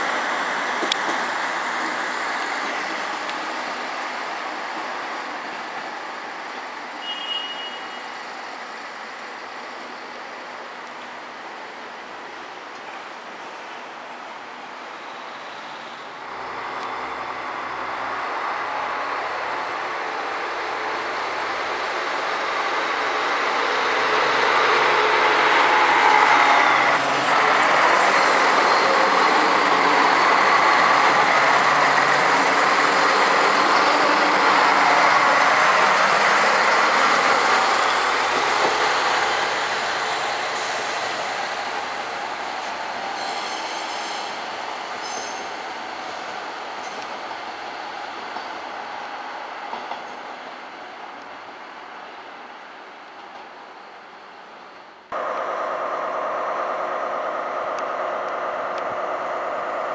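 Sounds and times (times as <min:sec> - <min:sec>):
diesel railcar engine: 0:00.0 - 0:59.9
rail noise: 0:00.0 - 0:59.9.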